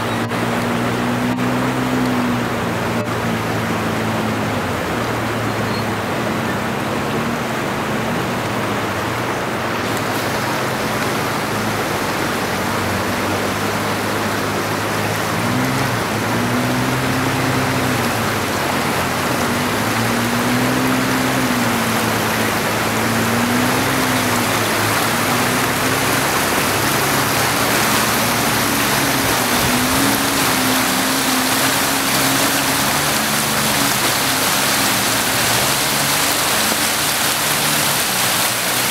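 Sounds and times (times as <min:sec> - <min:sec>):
low engine hum: 0:00.0 - 0:38.9
river rushing over rapids: 0:00.0 - 0:38.9.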